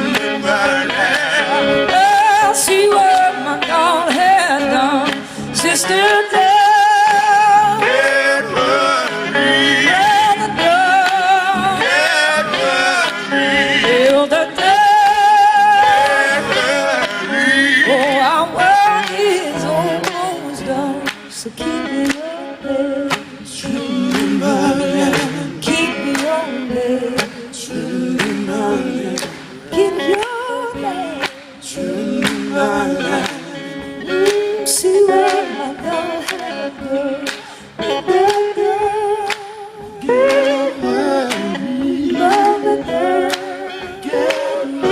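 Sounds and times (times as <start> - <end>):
blues-gospel band playing: 0.0 - 44.9.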